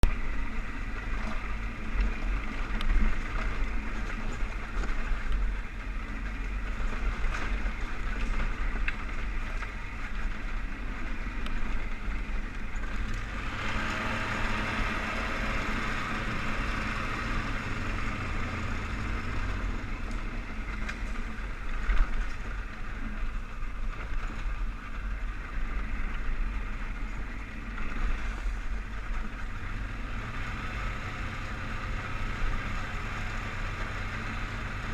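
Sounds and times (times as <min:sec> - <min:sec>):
atv engine rumbling: 0:00.0 - 0:34.9.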